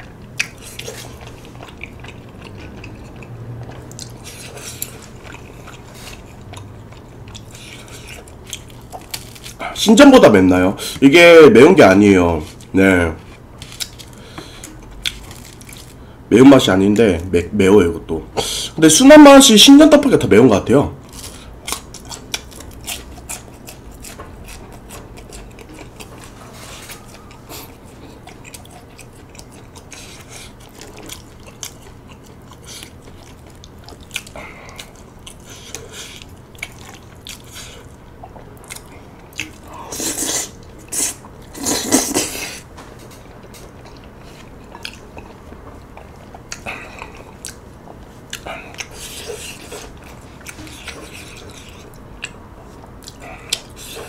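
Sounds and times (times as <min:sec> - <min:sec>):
chewing and biting: 0:00.0 - 0:09.8, 0:12.4 - 0:16.0, 0:21.0 - 0:54.0.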